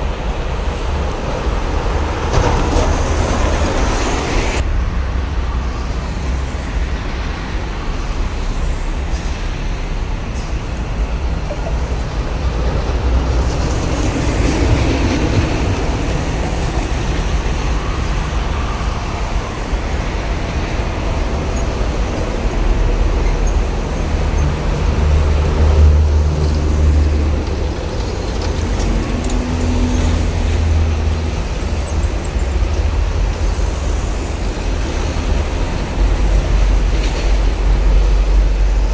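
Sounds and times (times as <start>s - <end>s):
heavy traffic passing: 0.0s - 38.9s.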